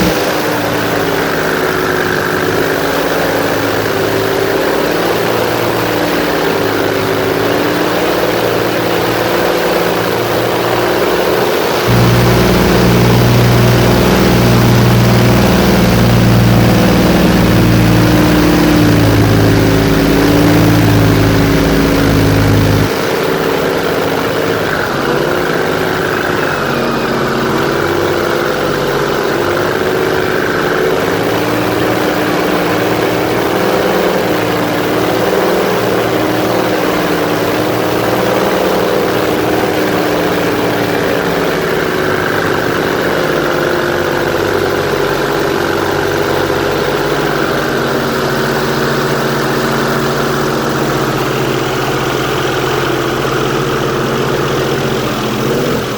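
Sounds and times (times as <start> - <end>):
airboat engine and propeller: 0.0 - 55.9.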